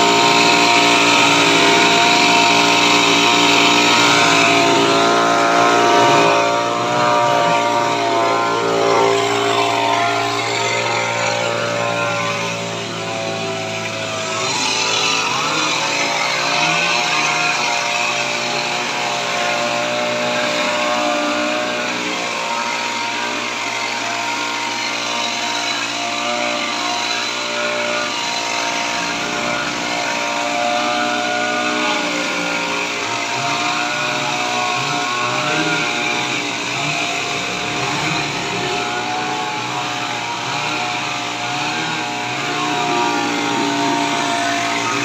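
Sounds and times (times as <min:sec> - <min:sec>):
hedge trimmer engine running: 0:00.0 - 0:45.0.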